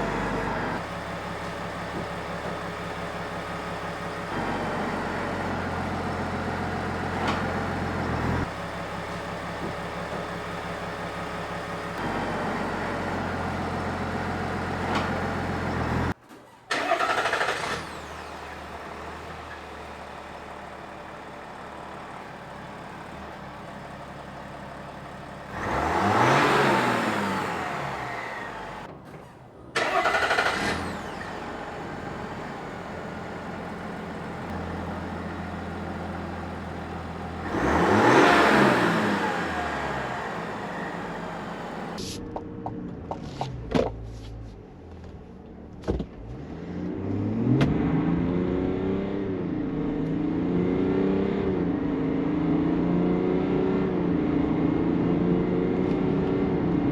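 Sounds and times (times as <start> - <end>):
diesel engine idling and revving: 0.0 - 56.9.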